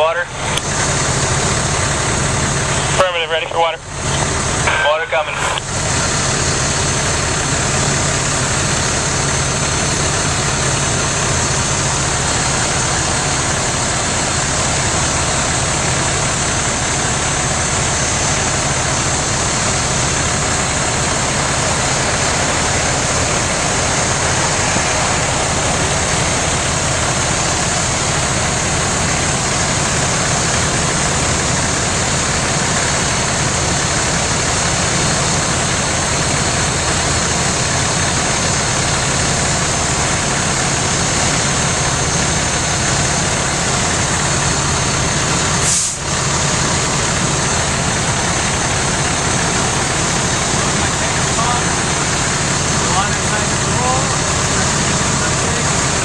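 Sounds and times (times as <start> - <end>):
fire engine running: 0.0 - 56.0.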